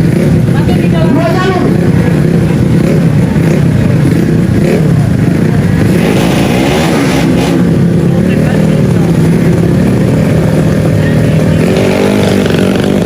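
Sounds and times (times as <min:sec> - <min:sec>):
scooter engines revving: 0:00.0 - 0:13.0.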